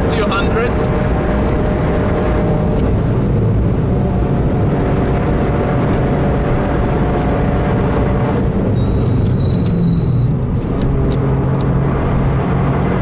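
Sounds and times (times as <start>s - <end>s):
car engine under load: 0.0s - 13.0s
tyre and road noise: 0.0s - 13.0s.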